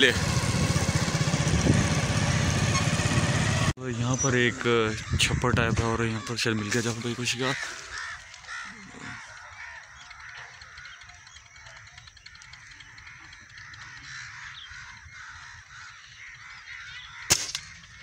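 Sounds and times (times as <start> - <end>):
birds calling and chattering: 0.0 - 18.0.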